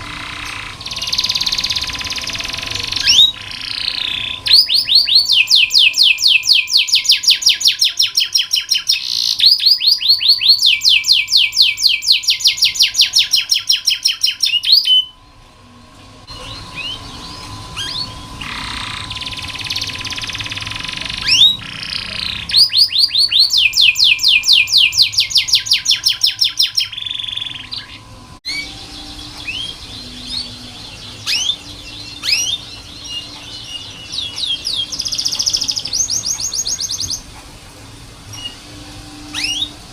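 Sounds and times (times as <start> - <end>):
canary singing: 0.0 - 15.4, 16.2 - 37.4, 38.3 - 39.9.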